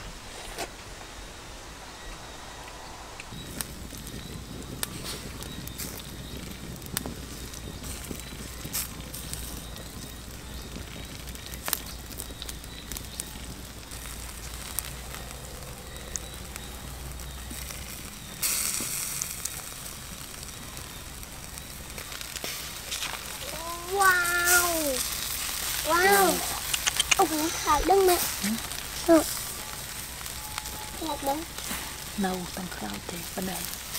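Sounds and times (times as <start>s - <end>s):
charcoal fire crackling: 0.0s - 33.9s
fish sizzling on grill: 3.3s - 33.9s.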